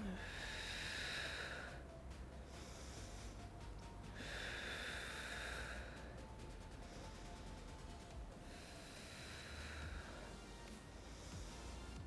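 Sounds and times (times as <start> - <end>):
woman breathing deeply: 0.0 - 7.7, 8.4 - 12.0.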